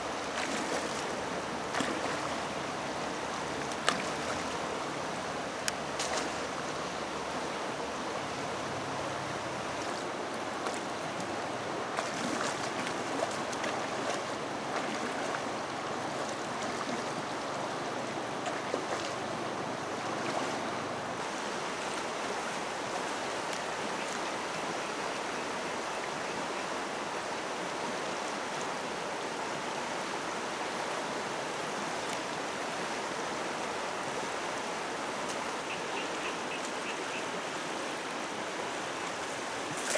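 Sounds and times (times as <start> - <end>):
water splashes: 0.0 - 25.1, 27.6 - 39.9
river water rushing: 0.0 - 39.9.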